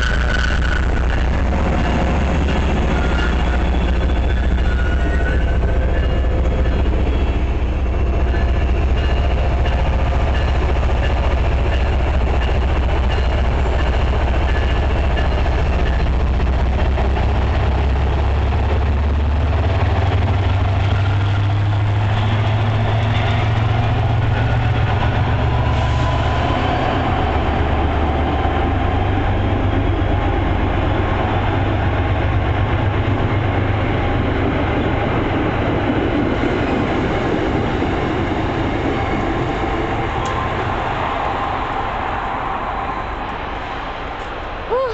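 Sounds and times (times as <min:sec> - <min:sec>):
diesel locomotive engine rumbling: 0:00.0 - 0:44.9.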